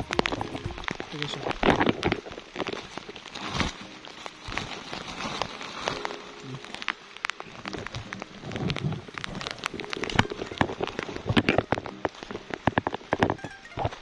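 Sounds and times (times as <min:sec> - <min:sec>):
crabs clicking and scraping: 0:00.0 - 0:14.0
plastic sack rustling: 0:00.0 - 0:14.0.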